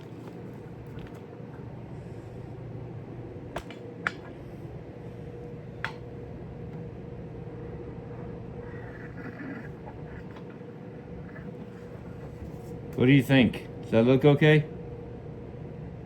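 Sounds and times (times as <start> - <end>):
background hum: 0.0 - 16.0.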